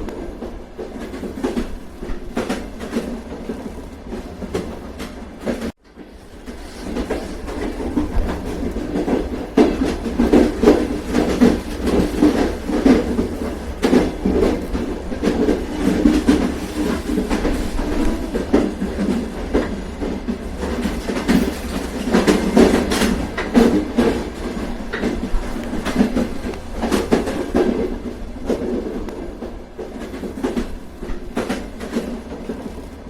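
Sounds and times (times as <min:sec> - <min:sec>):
train rumbling: 0:00.0 - 0:33.0
train wheels clacking over rail joints: 0:00.0 - 0:33.0.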